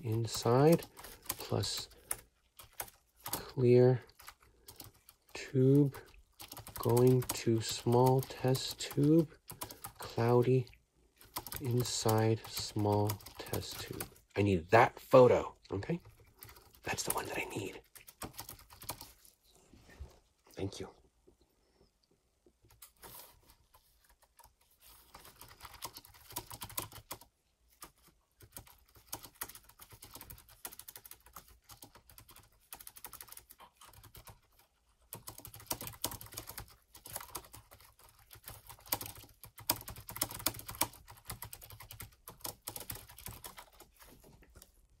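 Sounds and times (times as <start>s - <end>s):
laptop keyboard typing: 0.0s - 14.3s, 15.9s - 19.3s, 22.6s - 44.7s.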